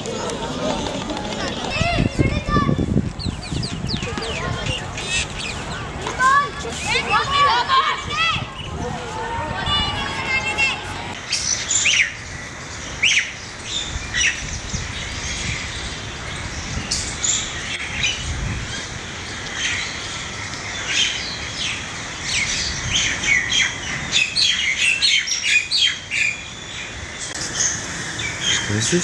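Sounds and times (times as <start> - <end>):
birds chirping and calling: 0.0 - 29.0.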